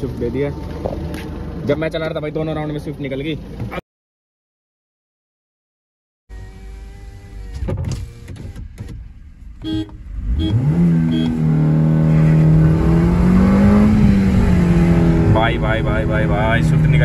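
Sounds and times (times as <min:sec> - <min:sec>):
car engine idling and accelerating: 0:00.0 - 0:03.8, 0:06.3 - 0:17.0.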